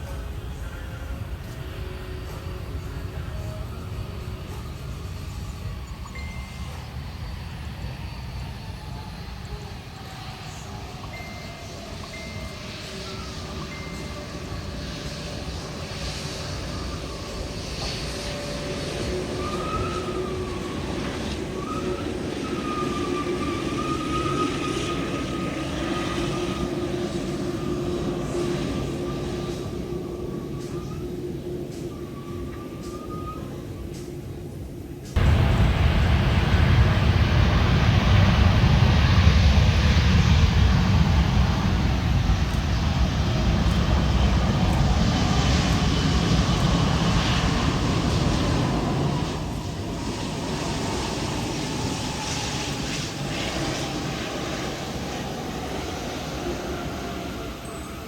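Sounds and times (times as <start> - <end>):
airliner engines running: 0.0 - 58.0.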